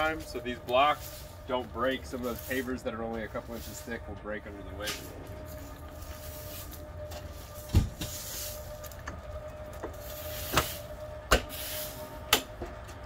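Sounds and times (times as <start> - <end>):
jack motor humming: 0.0 - 13.0.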